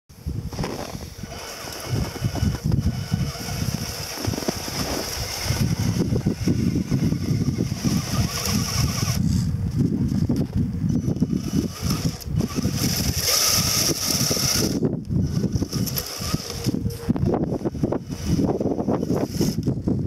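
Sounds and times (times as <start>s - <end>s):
low rumble from tyres on snow: 0.1s - 20.0s
high electric motor whine: 0.3s - 19.9s.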